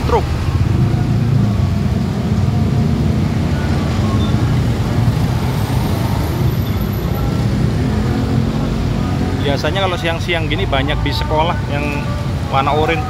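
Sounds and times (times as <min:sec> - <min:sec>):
motorcycles passing: 0:00.0 - 0:13.0.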